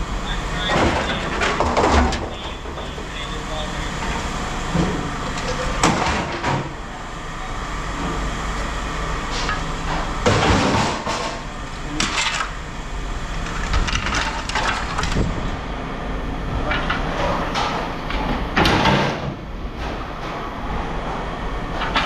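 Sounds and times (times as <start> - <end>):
low machine rumble: 0.0 - 22.0.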